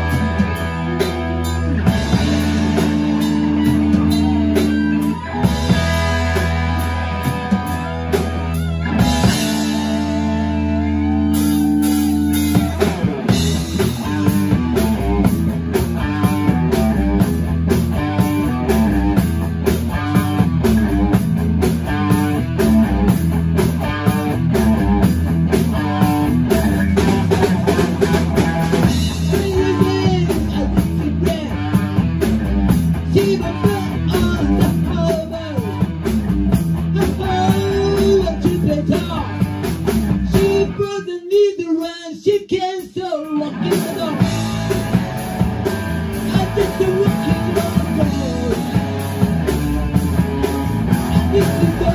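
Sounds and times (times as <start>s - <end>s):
rock band playing live: 0.0s - 51.9s.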